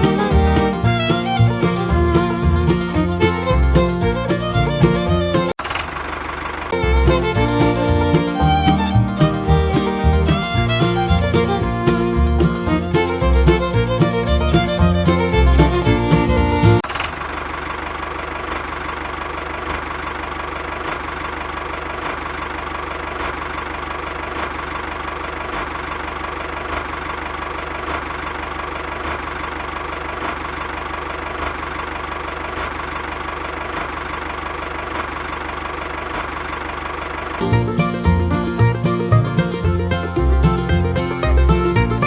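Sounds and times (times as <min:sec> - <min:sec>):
engine idling with regular knock: 0:00.0 - 0:42.0.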